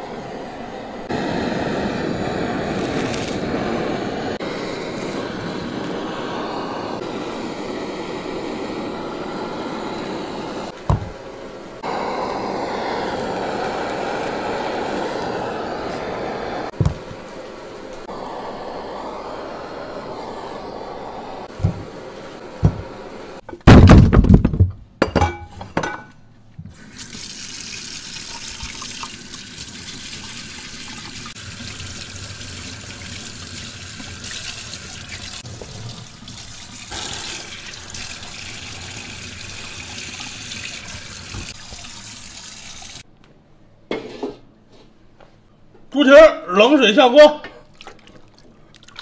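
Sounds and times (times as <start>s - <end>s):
blowtorch hissing: 0.0s - 23.4s, 26.8s - 43.0s.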